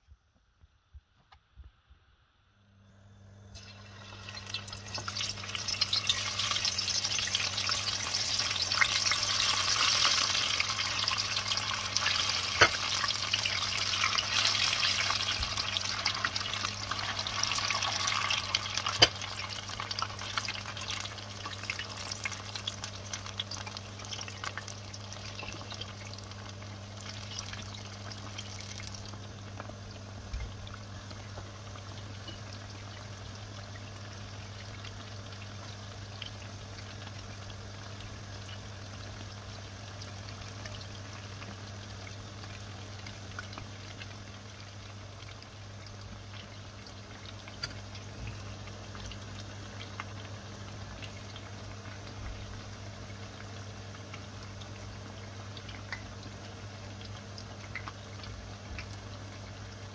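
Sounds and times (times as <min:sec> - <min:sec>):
food frying in hot oil: 0:03.0 - 0:59.9.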